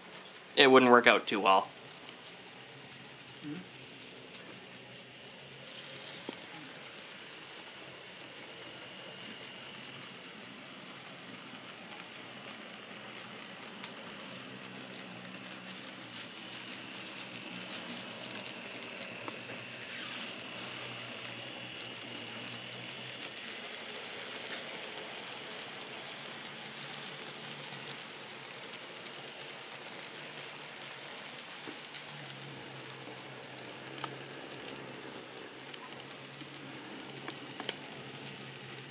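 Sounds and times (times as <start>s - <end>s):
wheels clicking on rails: 0.0s - 38.9s
model train motor whine: 1.6s - 38.9s.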